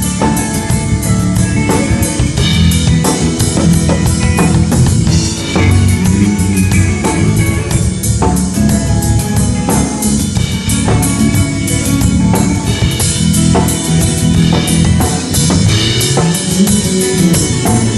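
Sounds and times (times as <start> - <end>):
bass and pitched instruments: 0.0 - 17.9
drum kit groove: 0.0 - 17.9.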